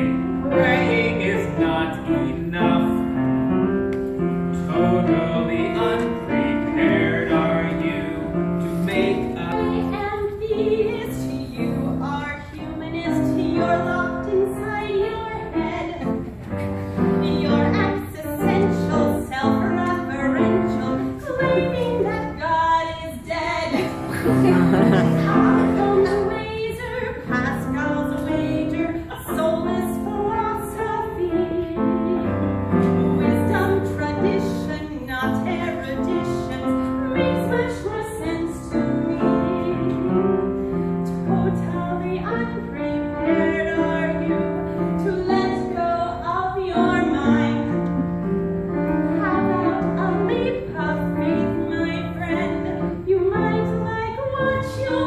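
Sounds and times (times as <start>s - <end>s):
woman singing: 0.0s - 3.1s, 4.6s - 16.3s, 17.2s - 40.4s, 41.1s - 48.0s, 48.8s - 55.0s
piano accompaniment: 0.0s - 55.0s.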